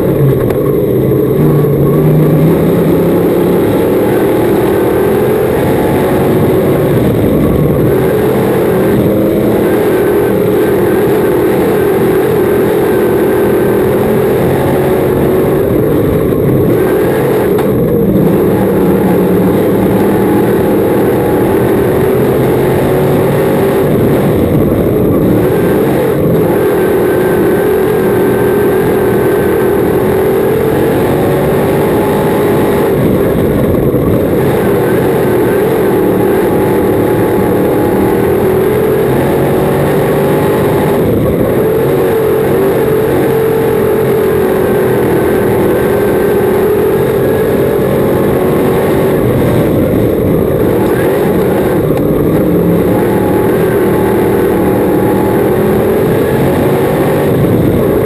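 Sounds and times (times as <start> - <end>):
race car engine roaring: 0.0 - 58.0.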